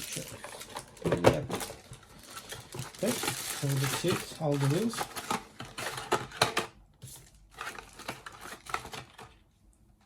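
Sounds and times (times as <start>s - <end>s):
packaging rustling and clicking: 0.0s - 9.4s.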